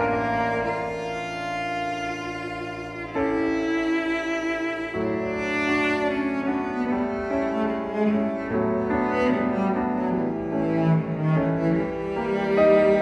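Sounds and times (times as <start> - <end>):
bowed string music: 0.0 - 13.0.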